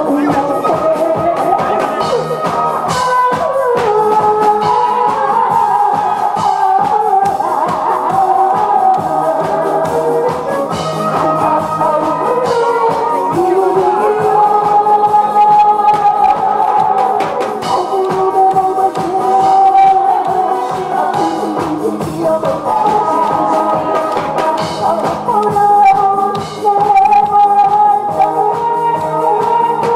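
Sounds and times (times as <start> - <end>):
instrumental accompaniment with beat: 0.0 - 29.9
woman singing into a microphone: 0.0 - 29.9.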